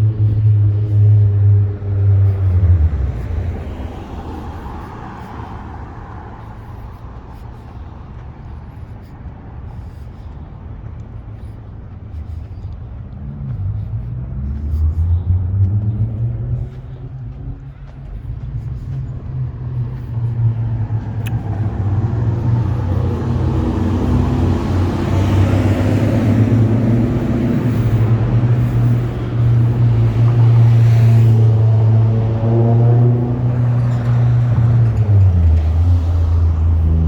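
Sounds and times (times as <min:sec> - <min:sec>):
vehicle engine passing by: 0:00.0 - 0:06.9, 0:13.2 - 0:37.0
road noise: 0:00.0 - 0:37.0.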